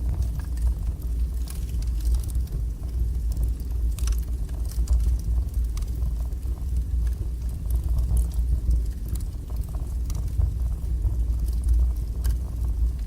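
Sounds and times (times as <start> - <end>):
fire crackles and pops: 0.0 - 13.0
fire roaring: 0.0 - 13.0.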